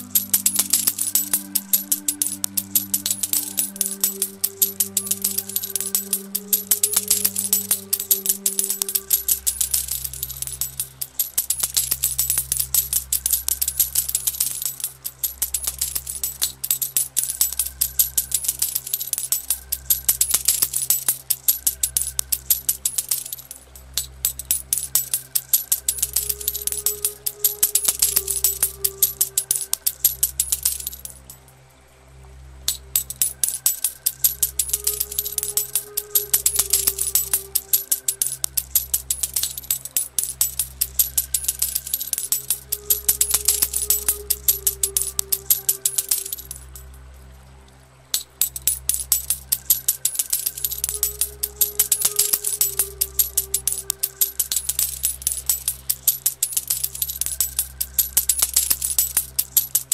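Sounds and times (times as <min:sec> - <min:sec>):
gold coins clinking: 0:00.0 - 0:31.5, 0:32.7 - 0:47.0, 0:48.1 - 0:59.9
slow ambient music: 0:00.0 - 0:59.9.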